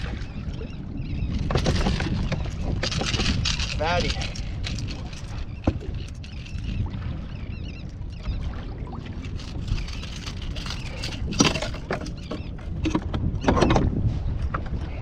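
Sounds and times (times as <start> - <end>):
water around kayak: 0.0 - 15.0
wind rumbling on microphone: 0.0 - 15.0.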